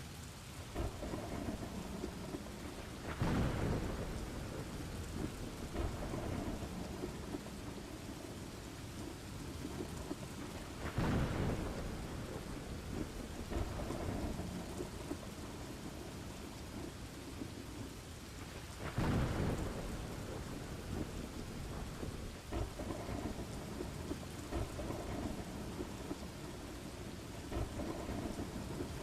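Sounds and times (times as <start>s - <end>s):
steady rain: 0.0s - 29.0s
thunder rumbling: 0.6s - 29.0s.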